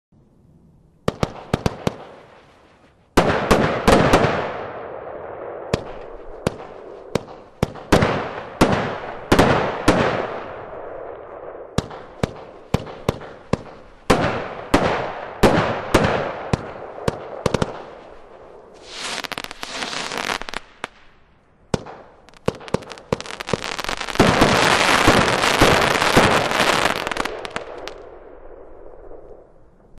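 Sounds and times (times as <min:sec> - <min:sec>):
firework launch reports and bursts: 0:01.1 - 0:21.2, 0:21.8 - 0:29.5
dense hissing firework crackle: 0:03.8 - 0:29.7.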